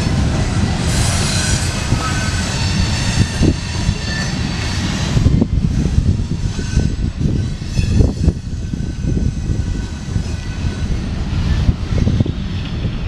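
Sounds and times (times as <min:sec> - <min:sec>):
freight train cars rumbling past: 0:00.0 - 0:13.0.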